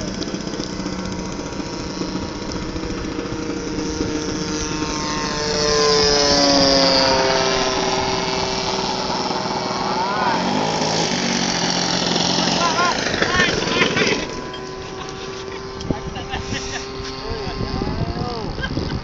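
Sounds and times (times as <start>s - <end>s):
model plane engine buzzing: 0.0s - 19.0s.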